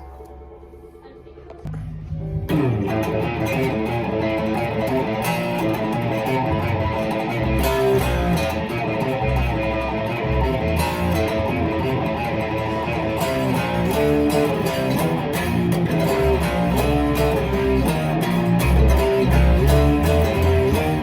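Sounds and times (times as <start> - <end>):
electric guitar playing: 1.6 - 21.0
low bass notes: 1.6 - 21.0.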